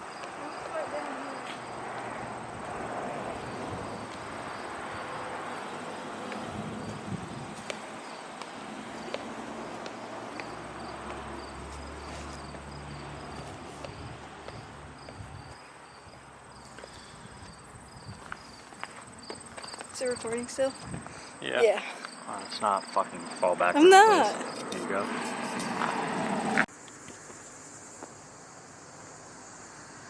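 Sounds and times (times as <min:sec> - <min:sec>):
insects chirping and buzzing: 0:00.0 - 0:30.0.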